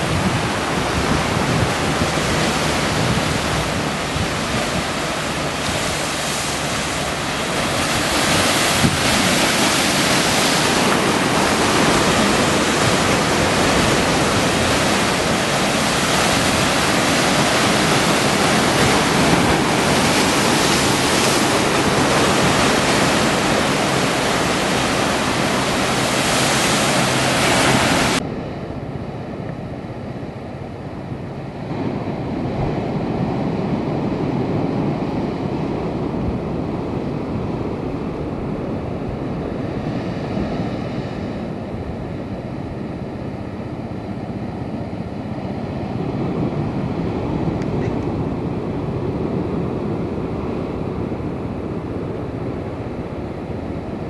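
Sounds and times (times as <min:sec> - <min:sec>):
ocean waves on rocks: 0:00.0 - 0:54.0.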